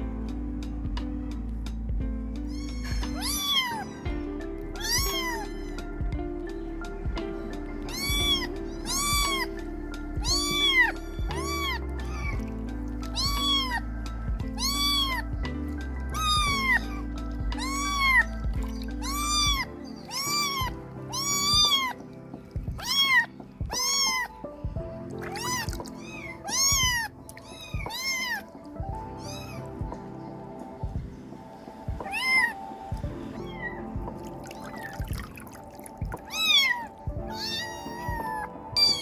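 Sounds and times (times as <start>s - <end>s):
background music: 0.0s - 39.0s
kittens mewing: 2.4s - 30.2s, 32.0s - 39.0s.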